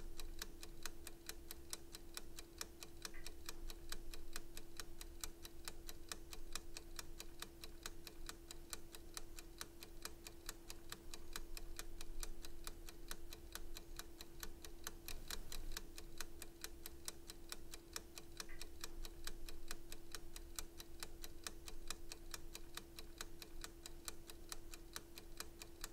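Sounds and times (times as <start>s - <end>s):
clock ticking fast: 0.0s - 25.9s.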